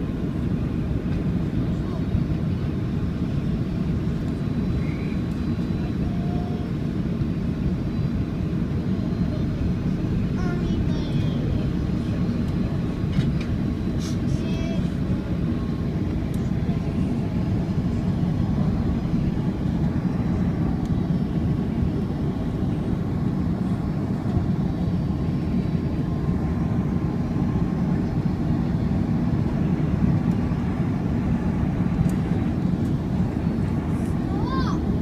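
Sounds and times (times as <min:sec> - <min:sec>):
airplane cabin engine rush: 0:00.0 - 0:35.0
faint steady whines: 0:00.0 - 0:35.0.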